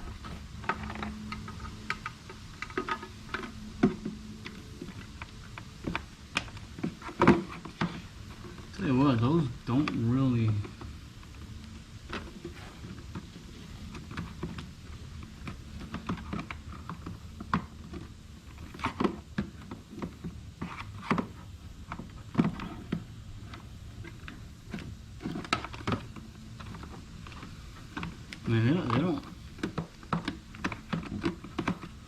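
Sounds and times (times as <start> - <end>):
plastic parts clicking and knocking: 0.2 - 11.4, 12.0 - 32.0.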